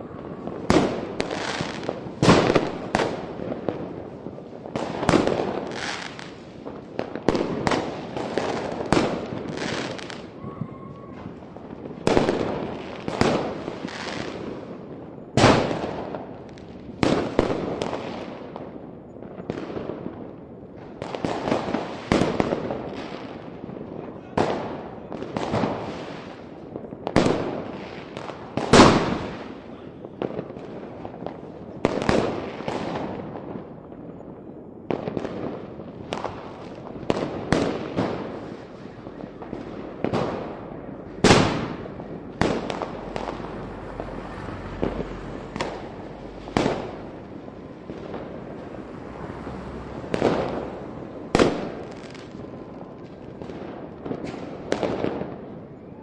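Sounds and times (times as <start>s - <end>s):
faint fireworks crackle and pops: 0.0s - 56.0s.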